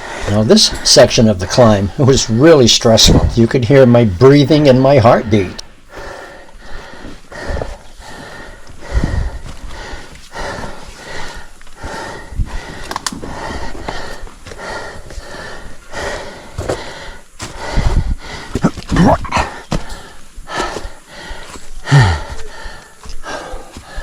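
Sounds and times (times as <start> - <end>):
man panting heavily: 0.0 - 3.4, 5.8 - 24.0.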